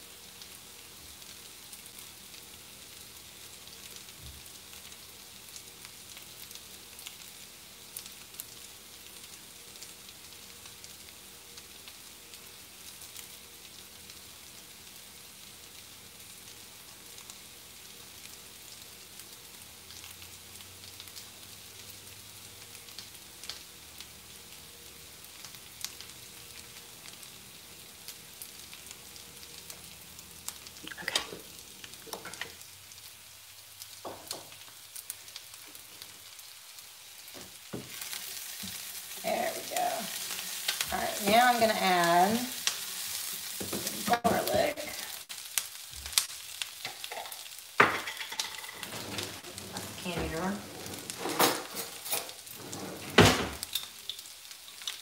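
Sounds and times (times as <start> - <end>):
food sizzling in a skillet: 0.0 - 55.0.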